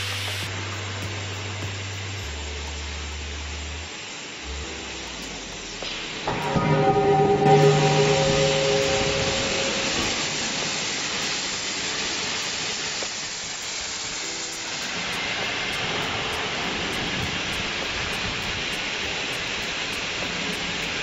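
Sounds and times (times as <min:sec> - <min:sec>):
plasma cutting torch hissing: 0:00.0 - 0:21.0.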